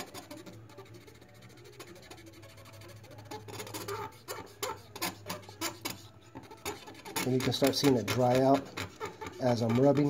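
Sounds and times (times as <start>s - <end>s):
cotton swab rubbing on paper: 0.0s - 10.0s.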